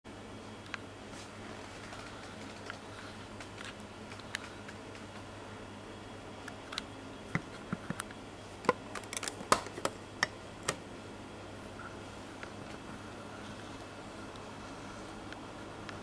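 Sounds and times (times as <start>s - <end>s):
faint steady hum: 0.1s - 16.0s.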